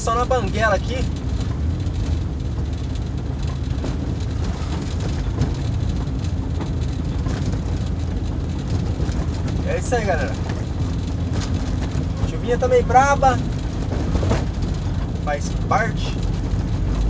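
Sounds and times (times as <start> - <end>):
engine idling: 0.0 - 17.0
rain on windscreen: 0.0 - 17.0
tyres rumbling: 0.0 - 17.0.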